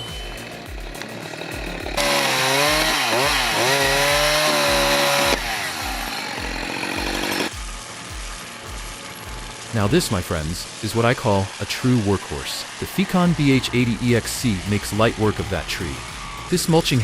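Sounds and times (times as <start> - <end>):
chainsaw cutting: 0.0 - 9.8, 10.6 - 17.0
music beat: 0.0 - 10.6, 13.3 - 17.0.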